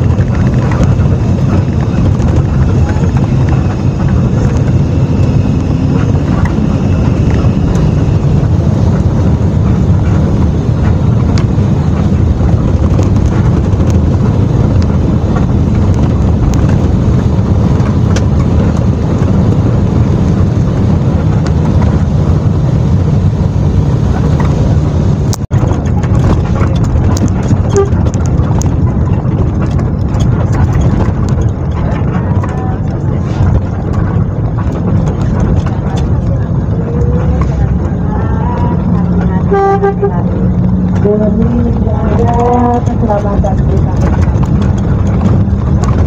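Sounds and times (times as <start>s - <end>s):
bus engine and road rumble: 0.0s - 46.0s
wind buffeting microphone: 0.0s - 46.0s.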